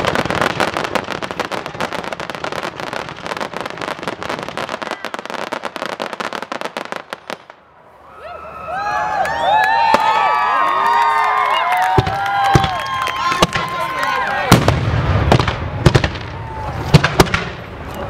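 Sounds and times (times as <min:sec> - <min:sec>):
fireworks crackling: 0:00.0 - 0:08.0, 0:11.5 - 0:18.0.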